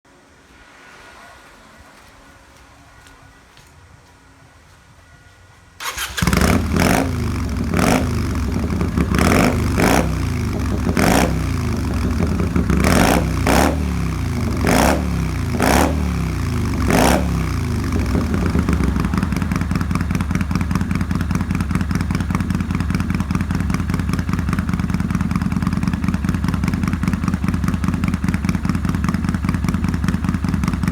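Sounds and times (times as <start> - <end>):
motorcycle engine idling: 5.8 - 30.9
motorcycle engine starting and revving: 5.8 - 30.9.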